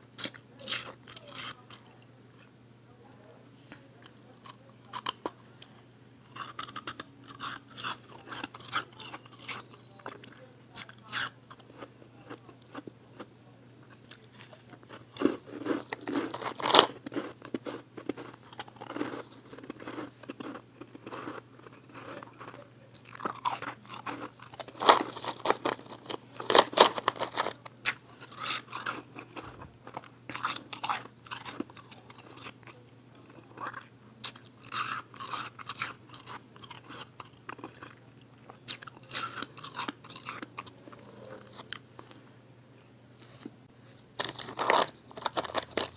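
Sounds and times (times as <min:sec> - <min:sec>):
faint low hum: 0:00.0 - 0:45.9
ice crunching while chewed: 0:00.2 - 0:02.5, 0:04.1 - 0:05.4, 0:06.3 - 0:42.2, 0:44.2 - 0:45.9.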